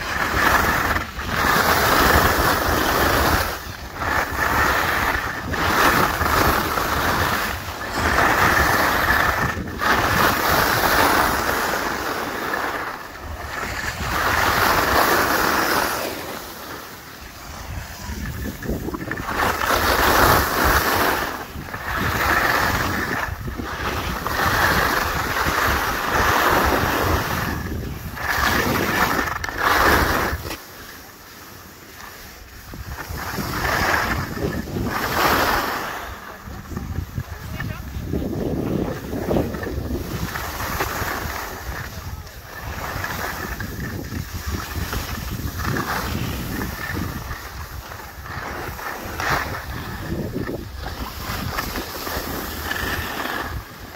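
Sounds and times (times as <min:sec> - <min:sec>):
wind on microphone: 0:00.0 - 0:30.6, 0:32.3 - 0:53.9
skis scraping on packed snow: 0:00.0 - 0:53.9.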